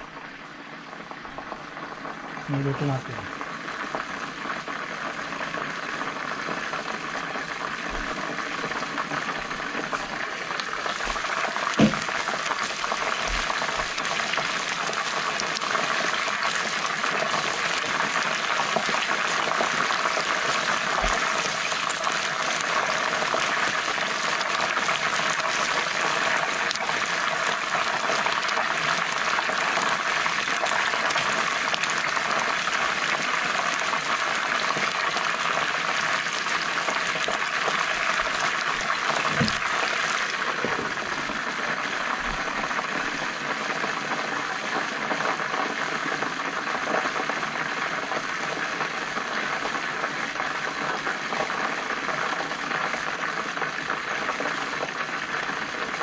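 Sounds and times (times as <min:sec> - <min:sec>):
chicken frying in bubbling oil: 0:00.0 - 0:56.0.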